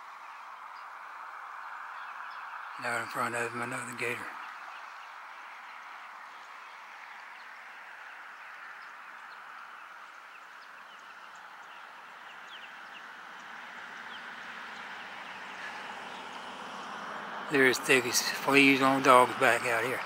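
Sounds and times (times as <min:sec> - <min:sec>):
background noise wash: 0:00.0 - 0:20.0.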